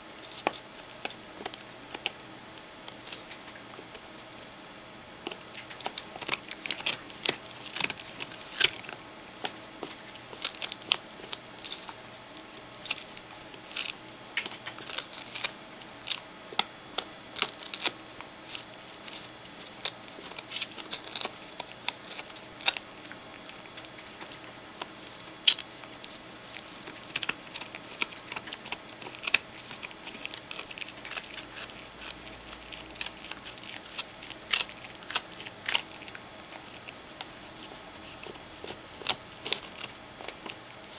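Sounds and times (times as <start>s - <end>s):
dog gnawing a rawhide bone: 0.0s - 4.5s, 5.2s - 40.9s.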